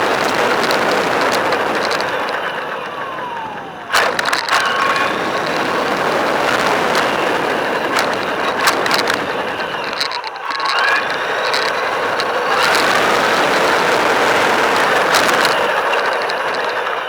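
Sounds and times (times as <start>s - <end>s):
rc car driving over rough ground: 0.0s - 17.0s
scattered clicks: 0.0s - 17.0s.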